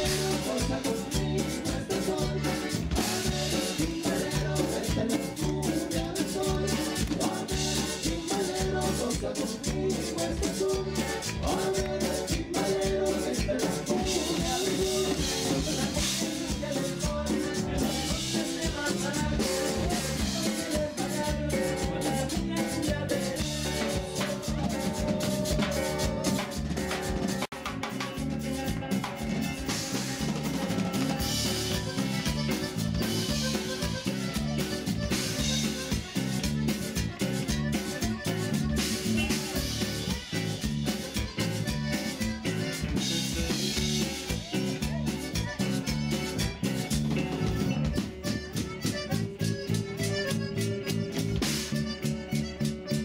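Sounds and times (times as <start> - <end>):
upbeat band music with drums: 0.0 - 53.0.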